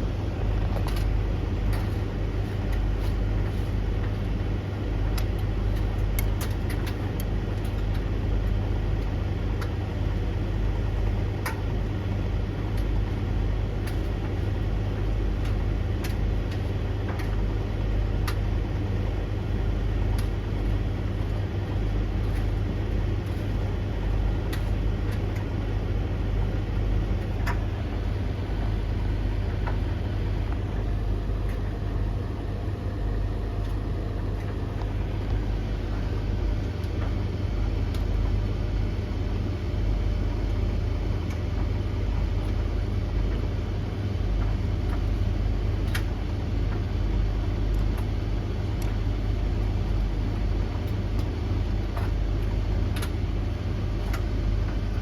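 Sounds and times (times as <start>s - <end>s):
tumble dryers humming: 0.0s - 55.0s.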